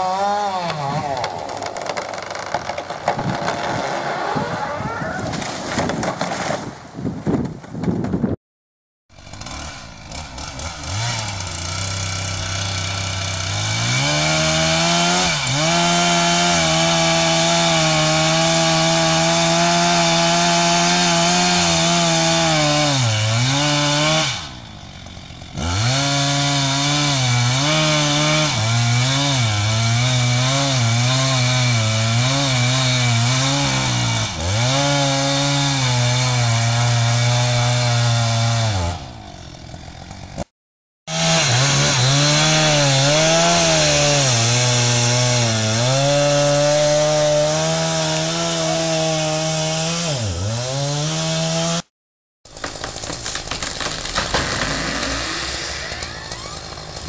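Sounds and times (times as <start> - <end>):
chainsaw cutting tree trunk: 0.0 - 4.6, 9.1 - 40.5, 41.1 - 51.9, 52.5 - 57.0.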